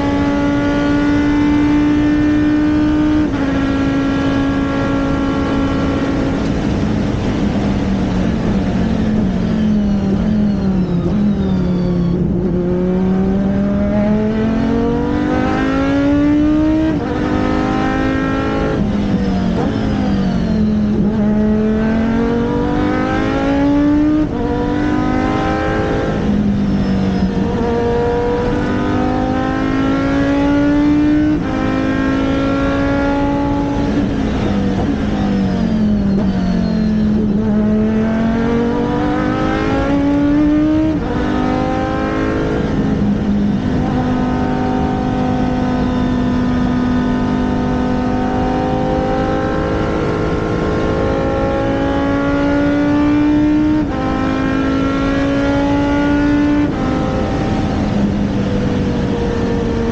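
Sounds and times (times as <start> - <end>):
racing engine accelerating: 0.0 - 59.9.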